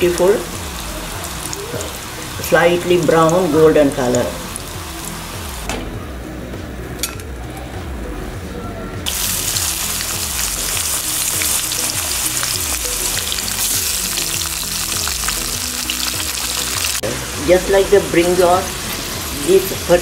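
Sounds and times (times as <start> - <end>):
potatoes sizzling in hot oil: 0.0 - 5.6, 9.1 - 20.0
background music with bass line: 0.0 - 20.0.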